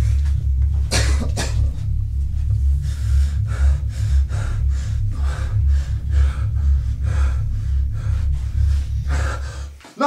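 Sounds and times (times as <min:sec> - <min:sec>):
steady low hum: 0:00.0 - 0:09.8
person breathing hard and fast: 0:00.0 - 0:10.0.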